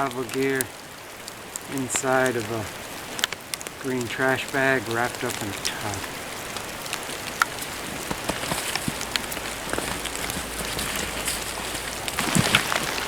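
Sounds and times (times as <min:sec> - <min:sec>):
rustling: 0:00.0 - 0:13.0
wet snow and rain falling: 0:00.0 - 0:13.0.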